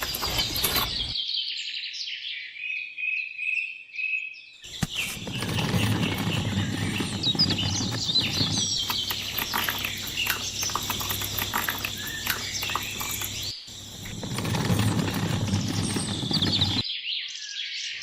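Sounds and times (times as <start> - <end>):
birds chirping: 0.0 - 2.5, 4.1 - 18.0.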